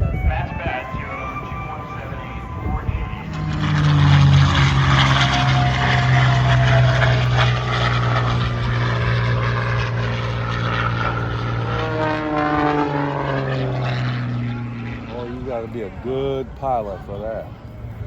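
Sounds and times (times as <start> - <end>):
propeller plane engine: 0.0 - 18.0.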